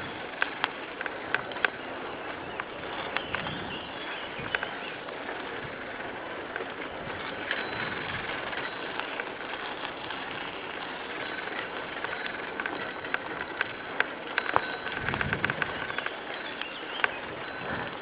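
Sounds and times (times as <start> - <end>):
clicks and crackles: 0.0 - 1.9, 2.6 - 3.6, 4.4 - 18.0
steady rushing noise: 0.0 - 18.0.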